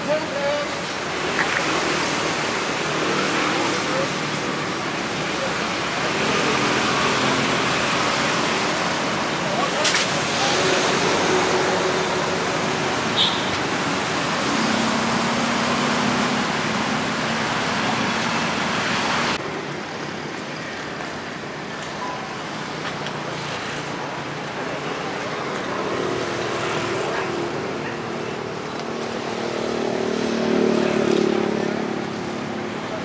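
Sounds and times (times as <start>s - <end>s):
hiss of passing vehicles: 0.6s - 19.4s, 22.4s - 33.0s.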